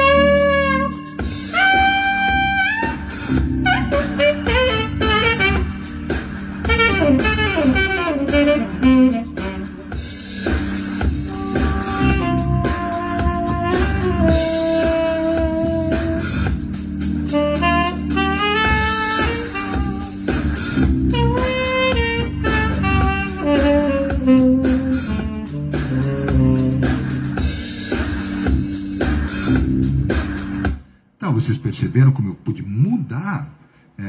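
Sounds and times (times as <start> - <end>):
saxophone improvising: 0.0 - 27.7
funk backing track: 0.0 - 30.9.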